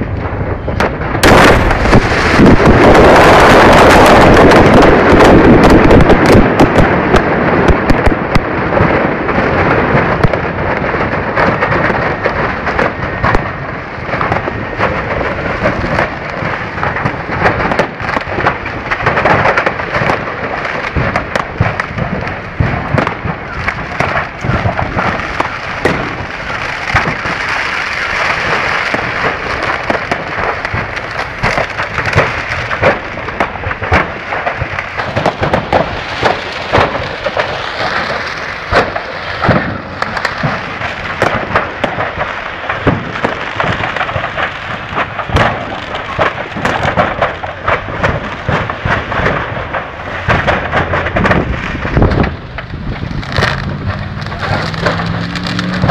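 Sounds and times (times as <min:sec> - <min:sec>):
fireworks crackling and banging: 0:00.0 - 0:55.9.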